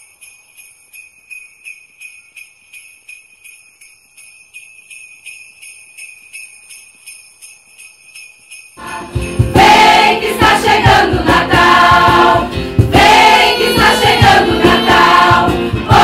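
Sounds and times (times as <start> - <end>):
sleigh bells shaking: 0.0 - 16.0.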